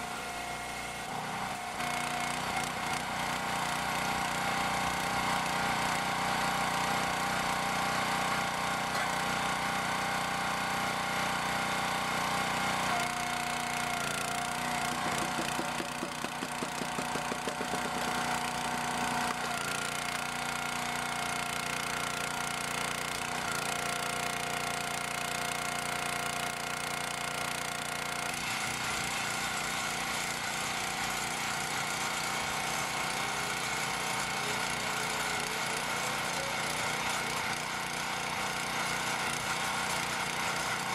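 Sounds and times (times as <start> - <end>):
log splitter engine running: 0.0 - 40.9.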